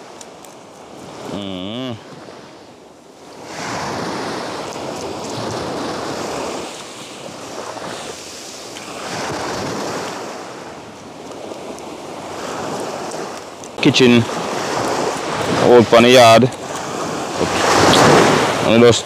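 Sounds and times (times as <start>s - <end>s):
sea surf breaking: 0.9s - 19.0s.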